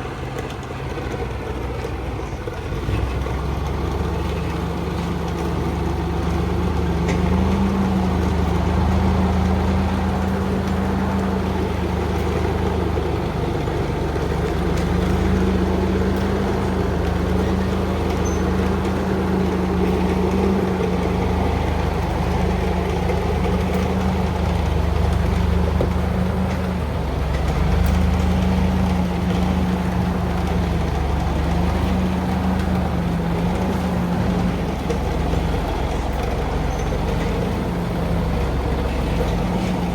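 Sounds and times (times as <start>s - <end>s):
heavy truck engine droning: 0.0s - 39.9s.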